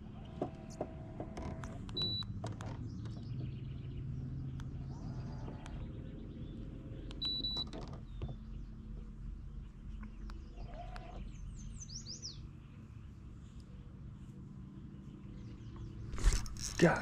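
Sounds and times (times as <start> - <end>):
low steady hum: 0.0 - 17.0
bird chirping: 1.8 - 17.0.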